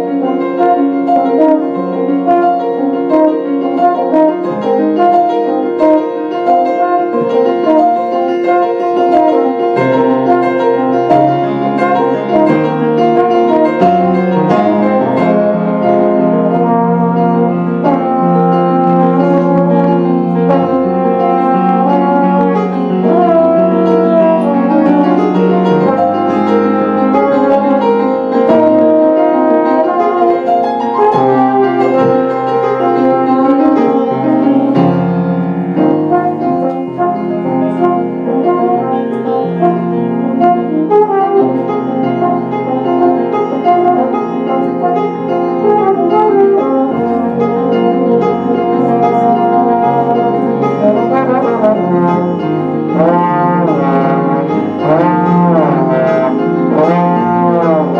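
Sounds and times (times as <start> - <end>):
low piano notes and chords: 0.0 - 57.9
sustained trombone notes: 0.0 - 57.9.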